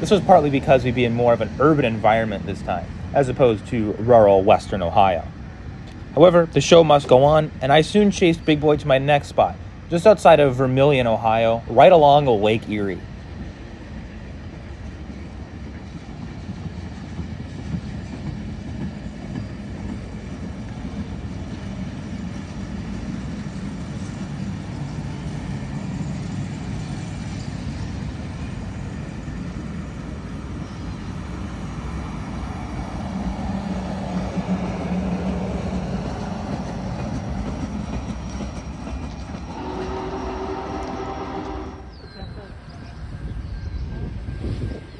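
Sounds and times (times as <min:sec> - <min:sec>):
steam train rumbling past: 0:00.0 - 0:44.9.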